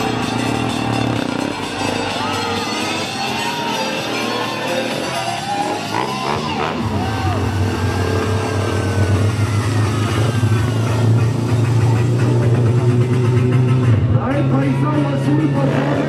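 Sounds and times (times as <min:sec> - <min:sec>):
low drone: 0:00.0 - 0:14.2
loud music: 0:00.0 - 0:16.0.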